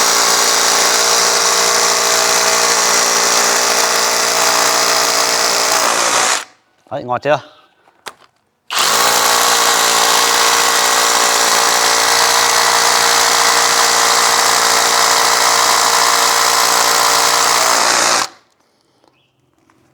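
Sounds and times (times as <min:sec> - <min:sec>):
drill motor whirring: 0:00.0 - 0:06.5, 0:08.7 - 0:18.4.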